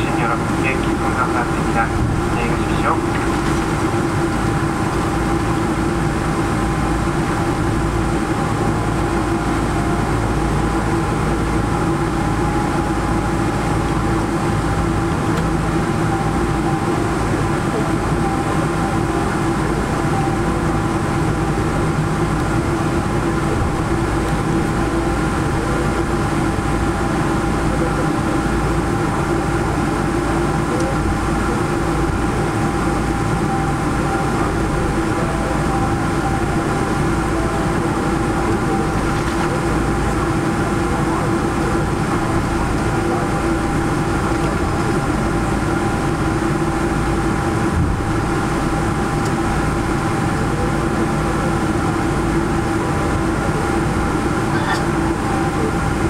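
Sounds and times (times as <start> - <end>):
aircraft cabin rumble and air rush: 0.0 - 56.0.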